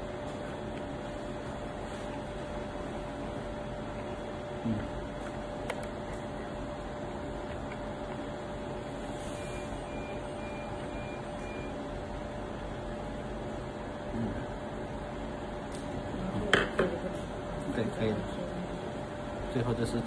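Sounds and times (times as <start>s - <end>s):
electrical hum and hiss: 0.0s - 20.0s.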